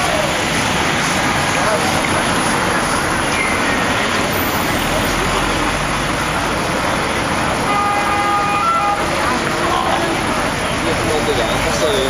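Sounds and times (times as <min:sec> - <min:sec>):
street noise din: 0:00.0 - 0:12.0.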